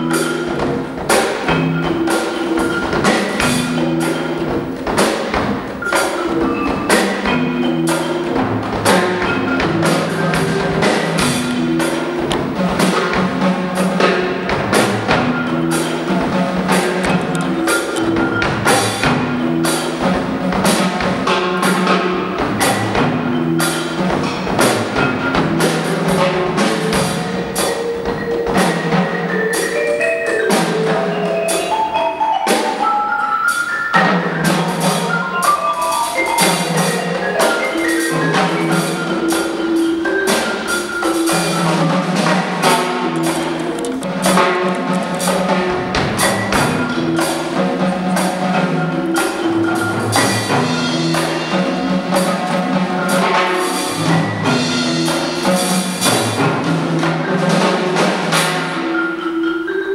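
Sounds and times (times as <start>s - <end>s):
congas: 0.0s - 59.9s
drum kit: 0.0s - 59.9s
marimba: 0.0s - 59.9s.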